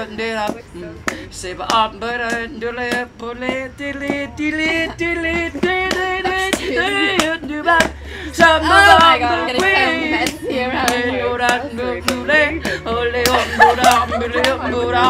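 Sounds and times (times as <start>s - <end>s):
sharp percussive beat: 0.0s - 15.0s.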